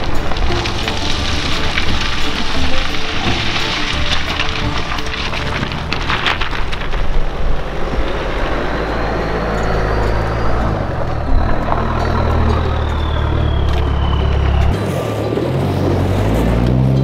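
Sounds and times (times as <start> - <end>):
pickup engine droning: 0.0 - 17.0.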